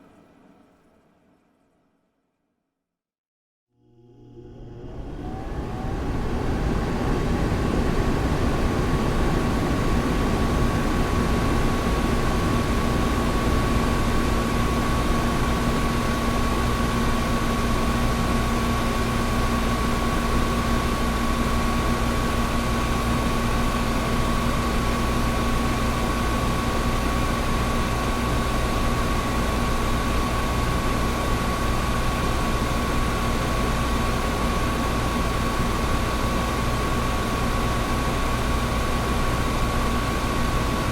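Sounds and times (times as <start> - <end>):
air conditioner running: 3.8 - 40.9.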